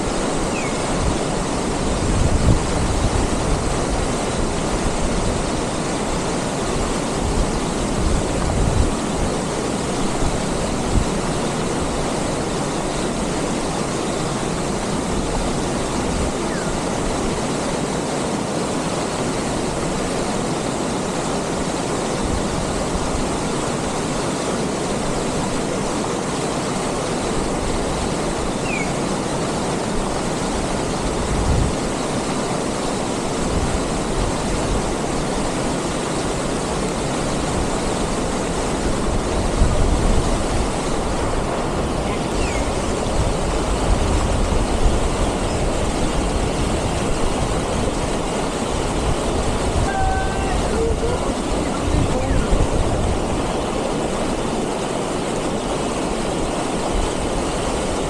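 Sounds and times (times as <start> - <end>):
water rushing over weir: 0.0 - 58.0.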